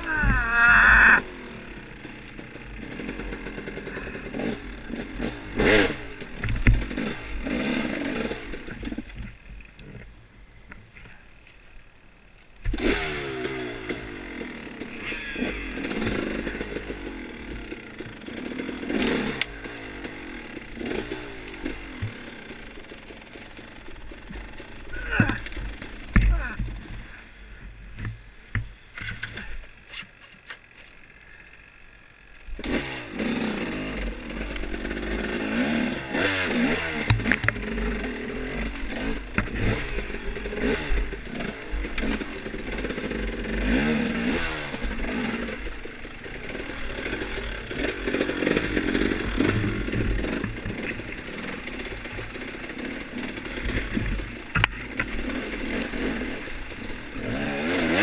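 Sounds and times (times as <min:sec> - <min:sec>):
motorcycle clatter: 0:00.0 - 0:09.4, 0:12.6 - 0:27.2, 0:32.6 - 0:58.0
motorcycle engine revving: 0:00.0 - 0:10.1, 0:12.6 - 0:30.0, 0:31.3 - 0:58.0.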